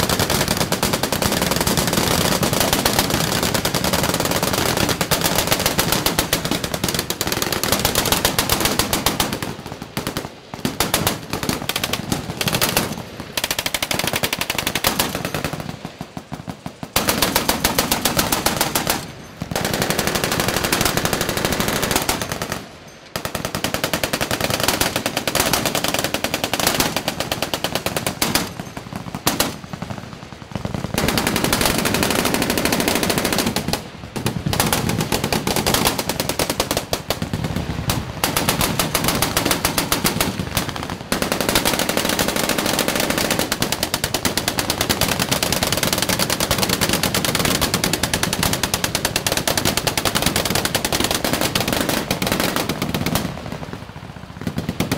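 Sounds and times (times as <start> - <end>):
heavy machine gun automatic fire: 0.0 - 16.3, 16.9 - 22.6, 23.2 - 29.8, 30.6 - 53.5.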